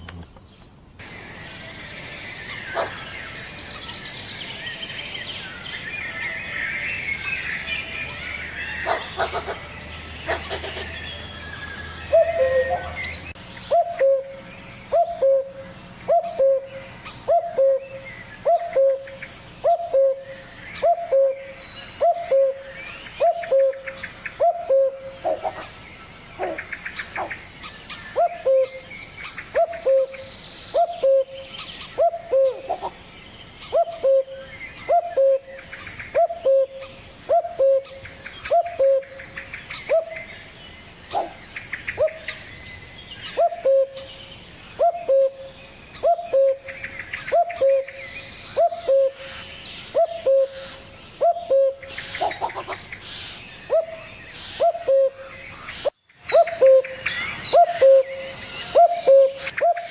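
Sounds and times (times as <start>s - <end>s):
bird chirps and trills: 0.0s - 59.9s.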